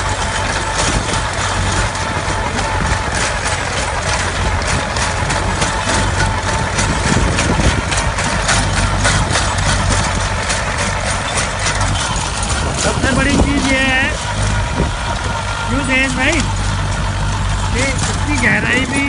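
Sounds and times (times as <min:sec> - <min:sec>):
dense irregular clicking: 0:00.0 - 0:19.0
tractor diesel engine running: 0:00.0 - 0:19.0.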